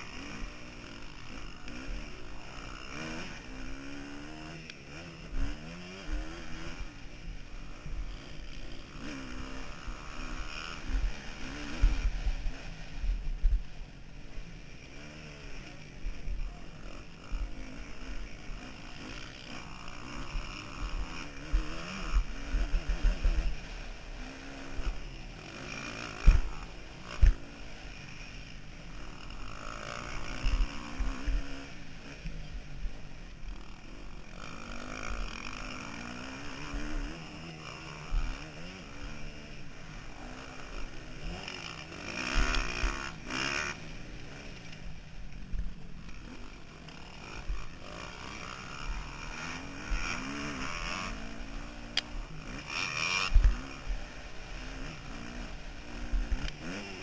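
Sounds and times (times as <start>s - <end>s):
bike rumbling over rough track: 0.0s - 57.0s
motocross bike engine revving: 0.0s - 57.0s.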